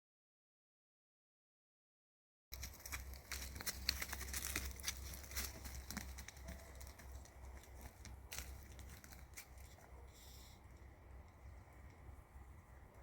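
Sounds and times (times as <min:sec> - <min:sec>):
dry leaves rustling and crackling: 0:02.5 - 0:13.0
low steady rumble: 0:02.6 - 0:13.0.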